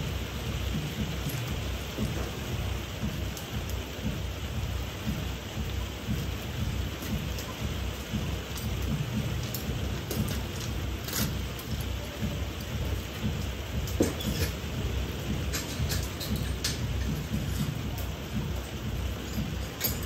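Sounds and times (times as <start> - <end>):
furnace burner roaring: 0.0 - 20.0.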